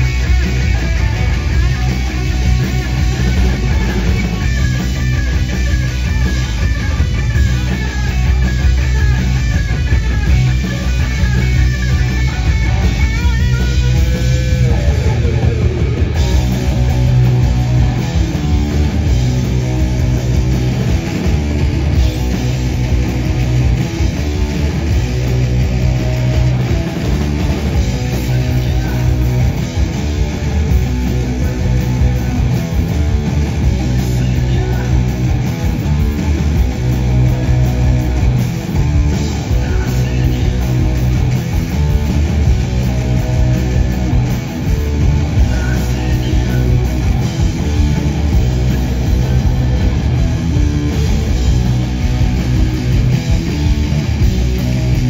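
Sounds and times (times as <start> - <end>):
bass guitar: 0.0 - 55.0
drums: 0.0 - 55.0
electric guitar: 0.0 - 55.0.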